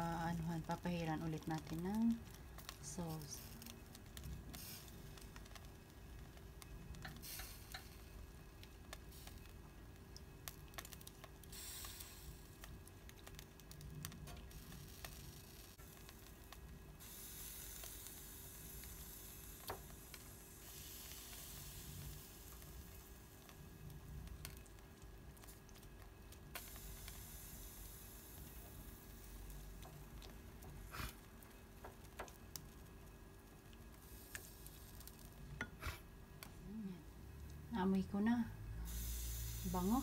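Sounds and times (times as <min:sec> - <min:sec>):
meat sizzling on grill: 0:00.0 - 0:36.6, 0:37.2 - 0:40.0.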